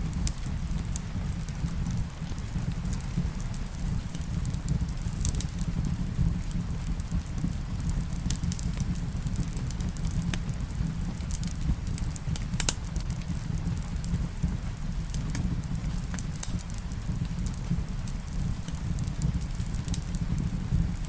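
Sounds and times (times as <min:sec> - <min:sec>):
low fire rumble: 0:00.0 - 0:21.0
wood fire crackling and popping: 0:00.0 - 0:21.0.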